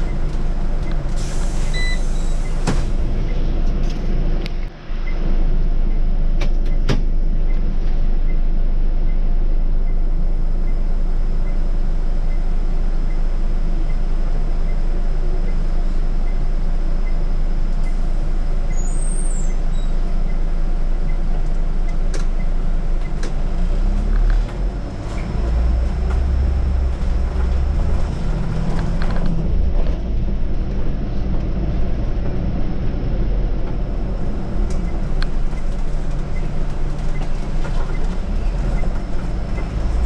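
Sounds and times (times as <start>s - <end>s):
bus diesel engine running: 0.0s - 40.0s.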